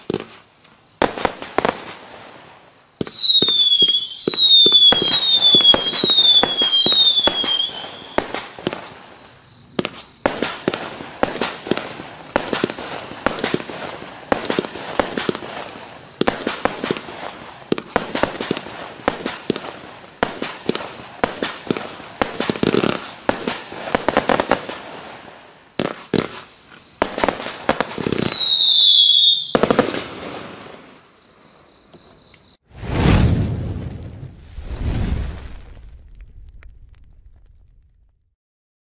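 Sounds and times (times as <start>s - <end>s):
fireworks bangs and crackling: 0.0s - 31.0s, 32.7s - 38.3s
fireworks whistles falling: 2.9s - 24.9s, 25.8s - 38.1s.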